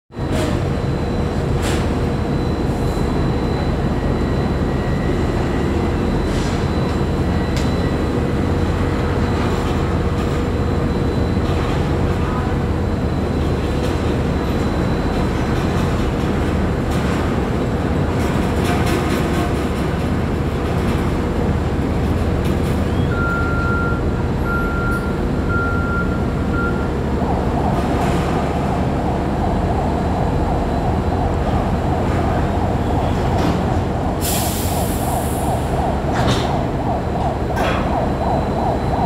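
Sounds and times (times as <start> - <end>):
low rumble of crane and tractor: 0.2 - 39.0
mid-pitched machine whine: 0.2 - 39.0.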